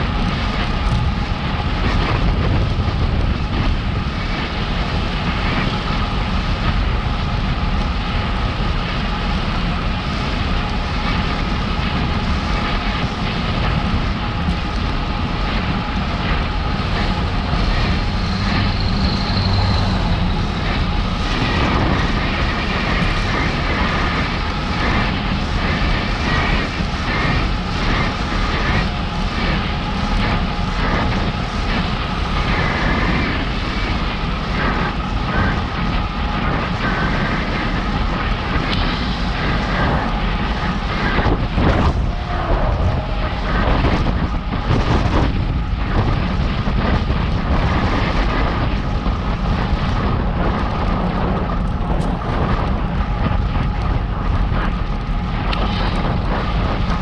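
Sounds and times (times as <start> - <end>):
steady whine: 0.0 - 57.0
wind on microphone: 0.0 - 57.0.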